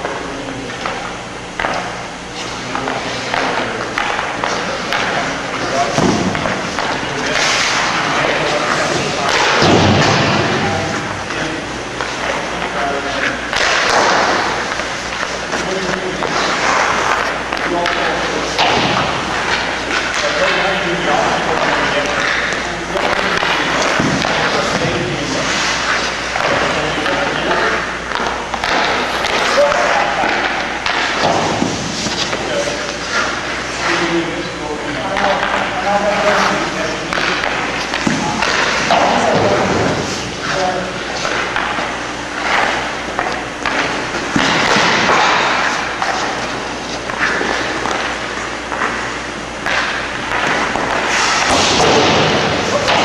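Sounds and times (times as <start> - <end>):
skates scraping ice: 2.4 - 53.0.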